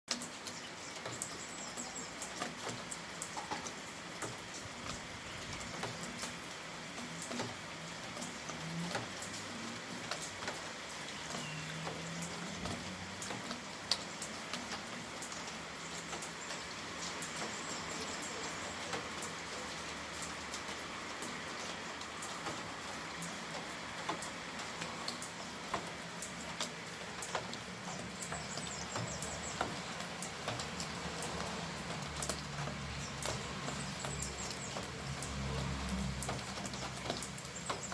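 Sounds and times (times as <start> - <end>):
heavy raindrops ticking: 0.1 - 37.9
rain falling: 0.1 - 37.9.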